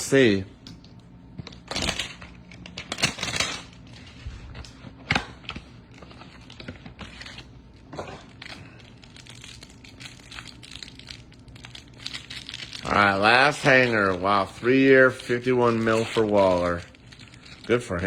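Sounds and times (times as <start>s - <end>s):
trading cards rustling: 1.6s - 18.0s.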